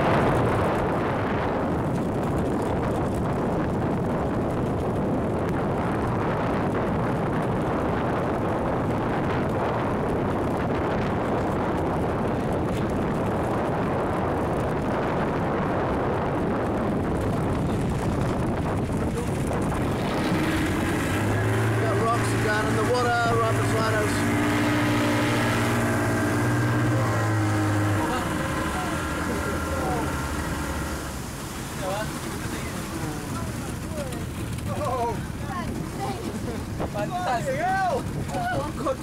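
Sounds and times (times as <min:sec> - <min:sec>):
volcano rumbling: 0:00.0 - 0:32.0.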